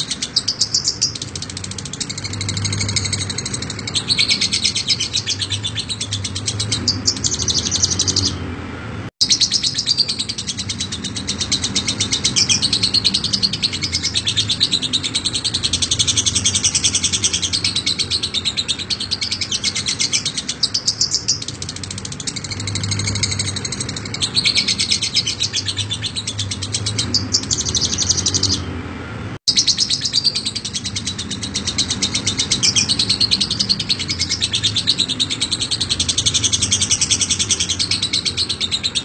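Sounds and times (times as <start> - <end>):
lovebird chattering high chirps: 0.0 - 8.4, 9.2 - 28.7, 29.5 - 39.0.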